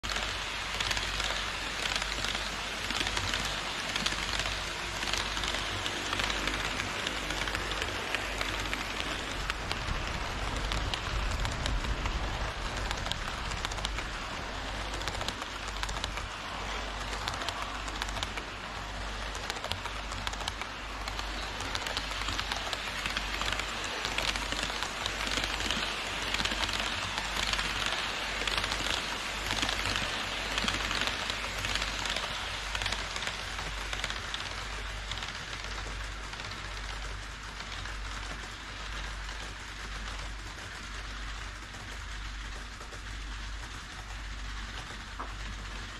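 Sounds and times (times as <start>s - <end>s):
model train wheels rattling on rails: 0.0s - 45.9s.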